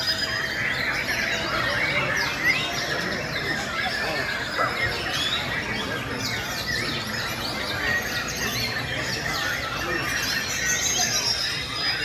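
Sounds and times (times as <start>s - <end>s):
songbirds singing in chorus: 0.0s - 12.0s.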